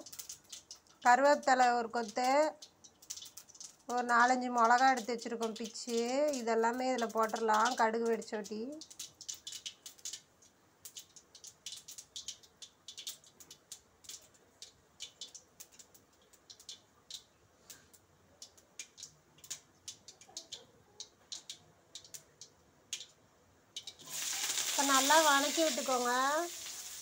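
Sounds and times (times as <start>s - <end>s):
seeds popping in hot oil: 0.0s - 27.0s.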